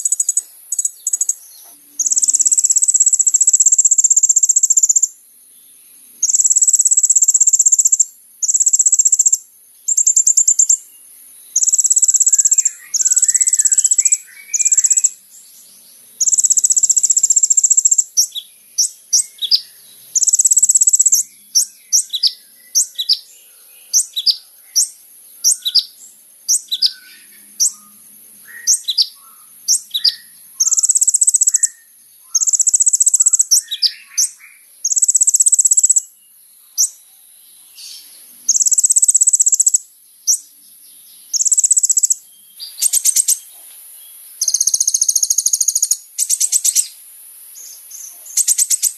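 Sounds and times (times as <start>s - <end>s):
bird singing buzzy trills: 0.0s - 47.0s, 47.6s - 48.9s
high insect-like whine: 0.0s - 48.9s.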